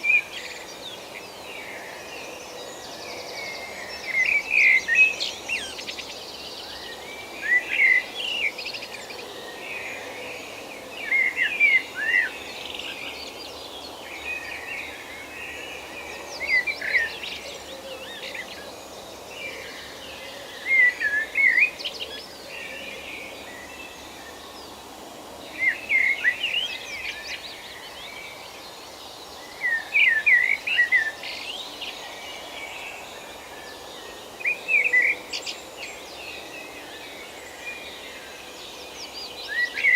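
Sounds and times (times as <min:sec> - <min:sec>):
bird chirping song: 0:00.0 - 0:39.9
steady background hiss: 0:00.0 - 0:39.9.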